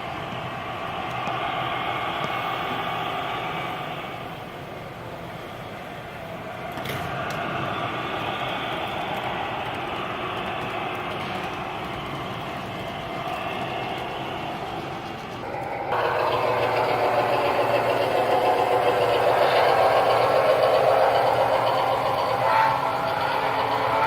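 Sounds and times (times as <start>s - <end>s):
model train rumbling: 0.0s - 24.0s.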